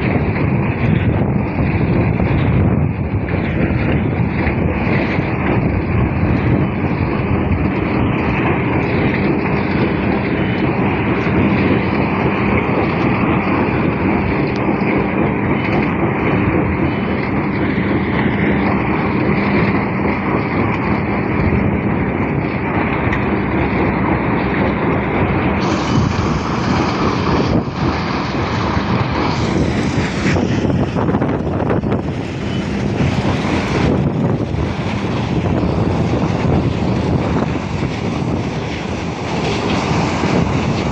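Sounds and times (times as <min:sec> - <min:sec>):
large engine rumbling: 0:00.0 - 0:40.9.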